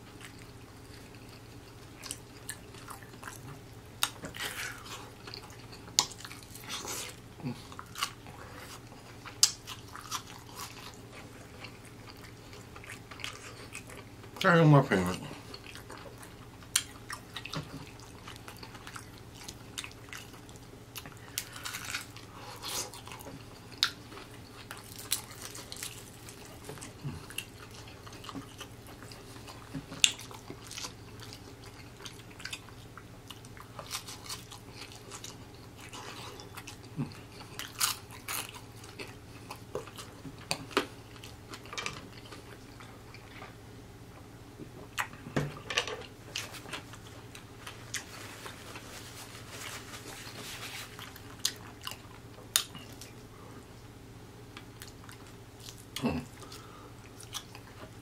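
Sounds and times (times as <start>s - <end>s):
chewing crispy fried chicken: 0.0s - 43.6s, 44.8s - 53.6s, 54.5s - 58.0s
faint low hum: 0.0s - 58.0s.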